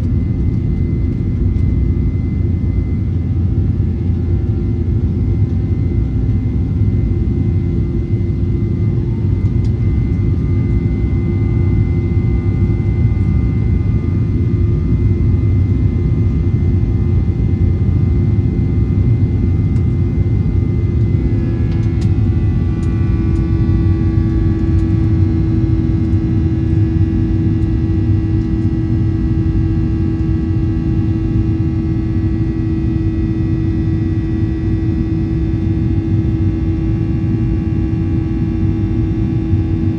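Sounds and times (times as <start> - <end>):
jet engines rumbling in cabin: 0.0 - 39.9
steady tonal hum: 0.0 - 39.9.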